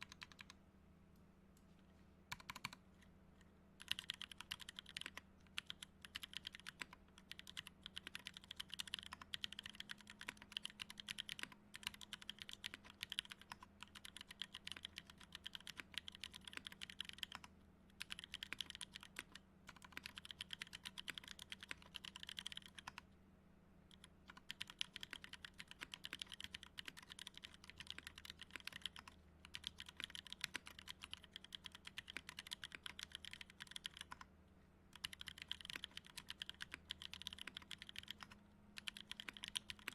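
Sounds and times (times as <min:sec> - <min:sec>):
fast typing on mechanical keyboard: 0:00.0 - 0:00.6, 0:02.3 - 0:02.8, 0:03.8 - 0:23.0, 0:23.9 - 0:34.3, 0:35.0 - 0:39.9.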